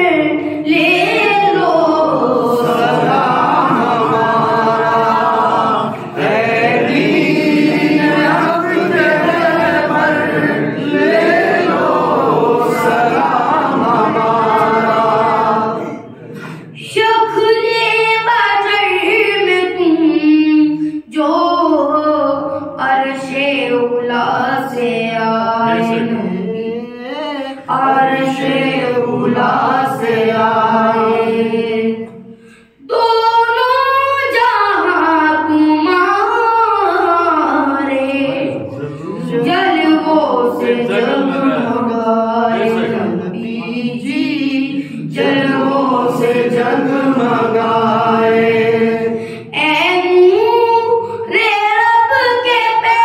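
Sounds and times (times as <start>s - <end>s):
boy chanting: 0.0s - 53.0s.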